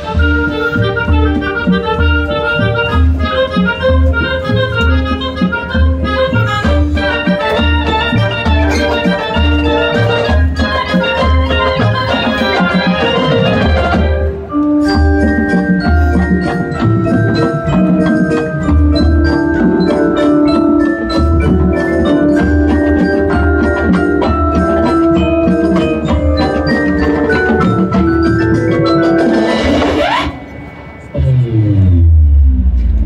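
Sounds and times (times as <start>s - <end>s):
marching band playing: 0.0s - 31.5s
mallet percussion runs: 0.0s - 31.6s.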